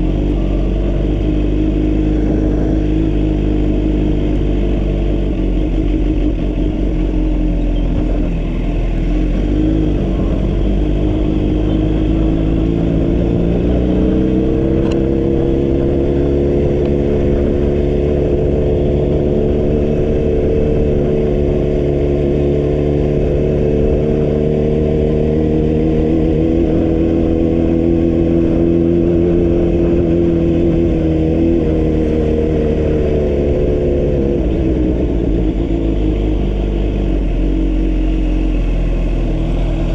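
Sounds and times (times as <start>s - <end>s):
road and wind rumble: 0.0s - 39.9s
vehicle engine running: 0.0s - 39.9s.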